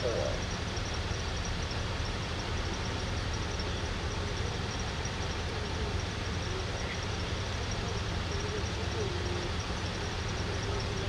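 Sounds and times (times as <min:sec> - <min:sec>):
outdoor background hiss: 0:00.0 - 0:11.0
vehicle engines idling: 0:00.0 - 0:11.0.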